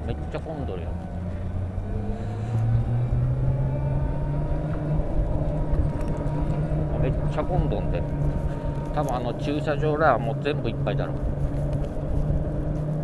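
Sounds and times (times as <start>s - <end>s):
road noise: 0.0s - 13.0s
small vehicle motor: 0.0s - 13.0s.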